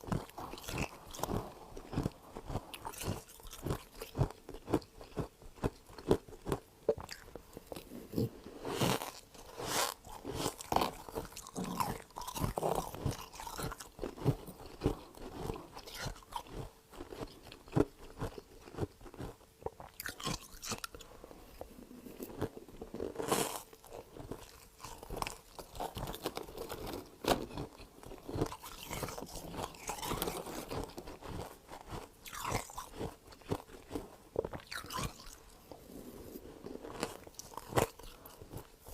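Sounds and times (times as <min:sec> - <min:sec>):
frost being chewed crunches: 0:00.0 - 0:35.7, 0:36.6 - 0:38.9.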